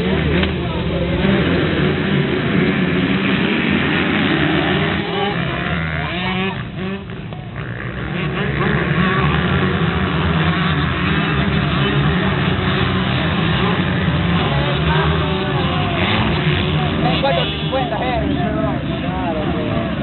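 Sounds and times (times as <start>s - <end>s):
motocross motorcycles racing: 0.0s - 20.0s.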